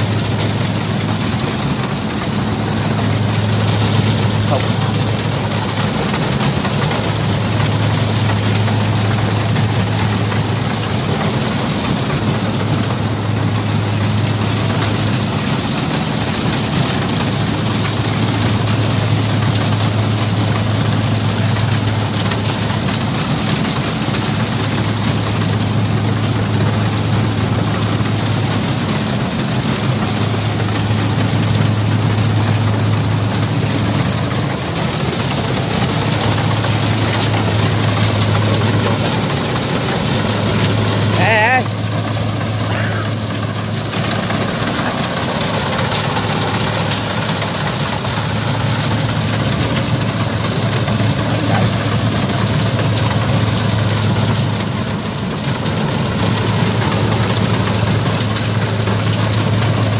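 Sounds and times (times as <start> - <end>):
harvester engine running: 0.0 - 59.9.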